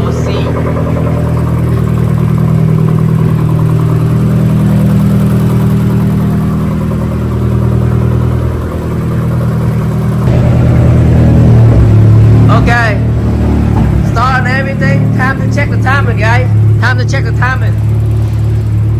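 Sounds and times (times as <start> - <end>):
pickup engine running: 0.0 - 18.9.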